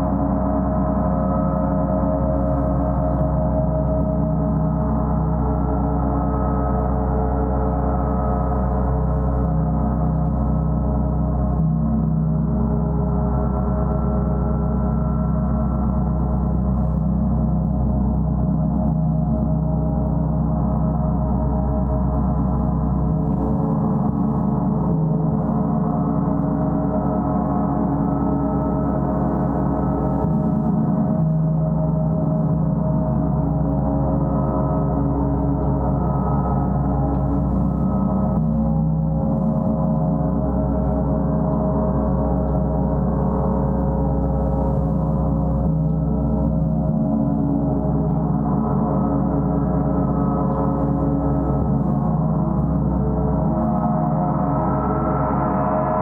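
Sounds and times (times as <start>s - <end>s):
sustained gong wash: 0.0s - 56.0s.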